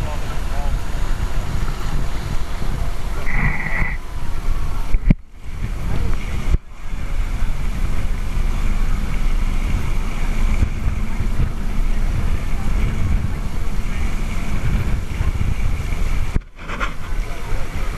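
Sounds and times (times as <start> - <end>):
water rushing past boat: 0.0 - 17.9
wind buffeting microphone: 0.0 - 17.9.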